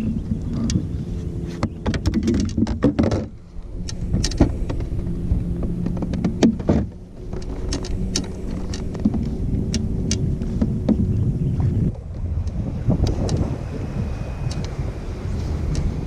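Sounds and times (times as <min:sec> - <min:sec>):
steady low hum: 0:00.0 - 0:16.0
wind rumbling on microphone: 0:00.0 - 0:16.0.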